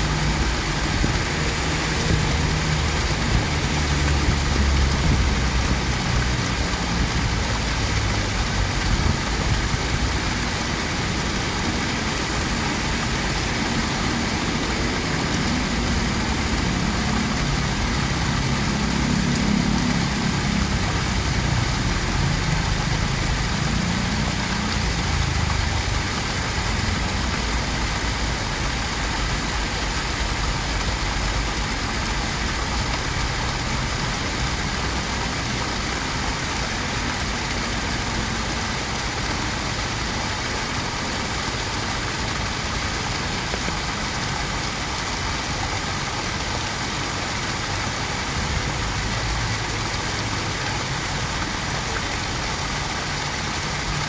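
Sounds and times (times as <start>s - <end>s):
waterfall splashing into pond: 0.0s - 54.0s.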